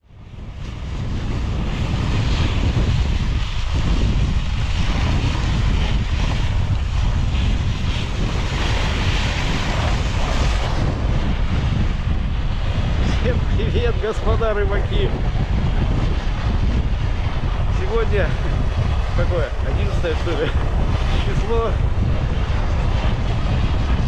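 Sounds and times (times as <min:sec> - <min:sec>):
strong wind buffeting microphone: 0:00.0 - 0:24.0.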